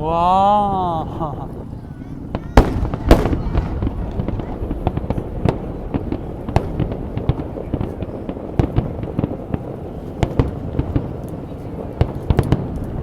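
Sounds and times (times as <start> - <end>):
continuous low rumble: 0.0 - 13.0
fireworks exploding: 0.6 - 13.0.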